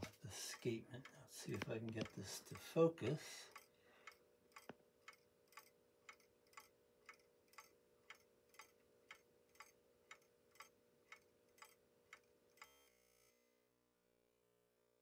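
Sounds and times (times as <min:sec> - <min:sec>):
pendulum clock ticking: 0:00.0 - 0:12.8.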